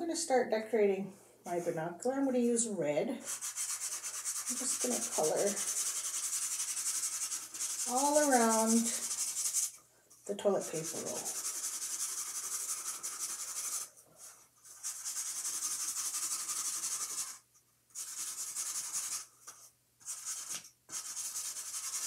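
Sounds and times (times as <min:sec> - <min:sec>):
marker scribbling on cardboard: 0:03.2 - 0:09.8, 0:10.4 - 0:22.0.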